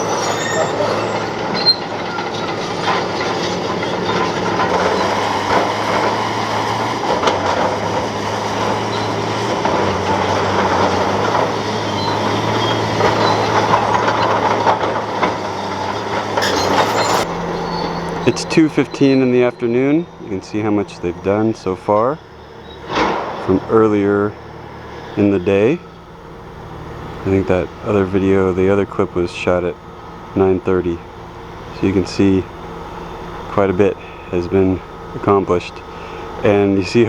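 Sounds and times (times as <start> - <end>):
diesel engine running: 0.0 - 37.0
steel tracks clanking and squealing: 0.0 - 37.0.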